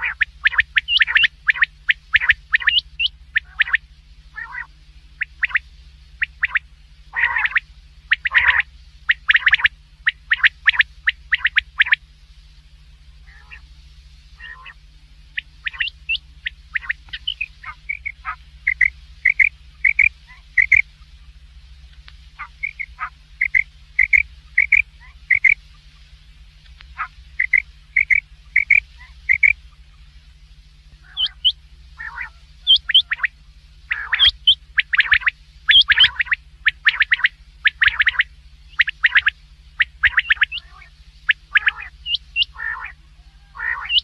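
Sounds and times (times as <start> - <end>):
quail calling: 0.0 - 12.0, 13.2 - 13.7, 14.4 - 21.4, 22.3 - 30.1, 30.9 - 44.0
low electrical hum: 0.0 - 44.0.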